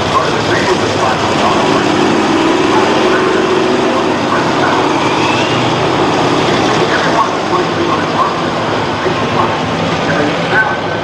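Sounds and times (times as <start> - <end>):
dense wash of noise: 0.0 - 11.0
truck engines droning: 0.0 - 11.0.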